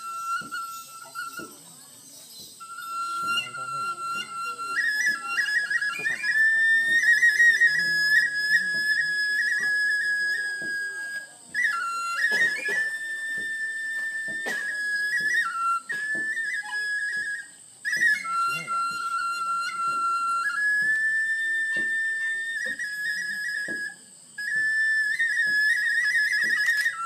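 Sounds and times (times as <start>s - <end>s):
bamboo flute melody: 0.0s - 27.0s.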